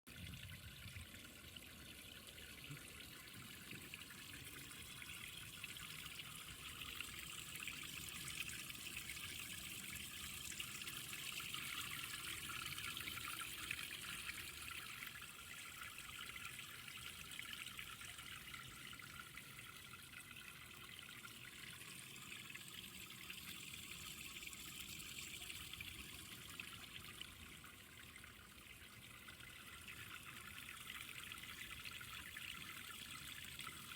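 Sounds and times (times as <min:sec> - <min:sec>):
fountain water trickling and splashing: 0:00.1 - 0:33.9.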